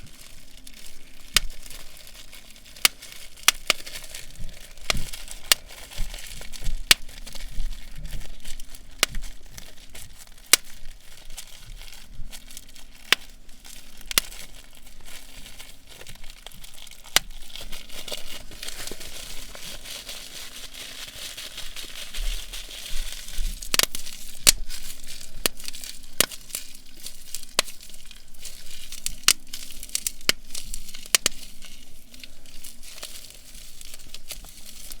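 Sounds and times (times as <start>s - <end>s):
bubble wrap popping: 0.0s - 35.0s
plastic crinkling: 0.0s - 35.0s.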